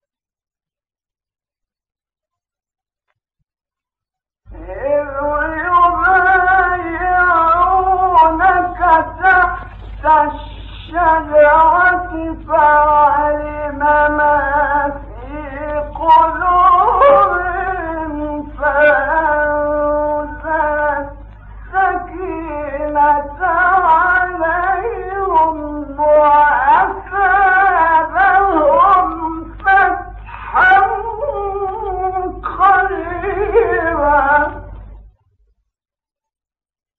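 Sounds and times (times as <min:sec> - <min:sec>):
man reciting melodically: 0:04.5 - 0:35.0
steady low hum: 0:04.5 - 0:35.3.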